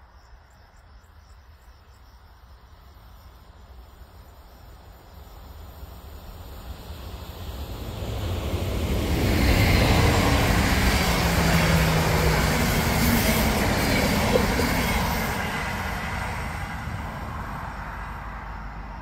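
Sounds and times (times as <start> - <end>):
train wheels on rail: 3.4 - 18.9.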